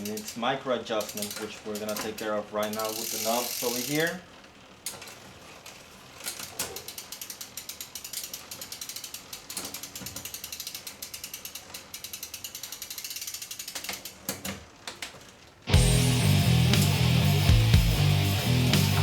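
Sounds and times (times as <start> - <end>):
bicycle freehub ratcheting: 0.0 - 15.7.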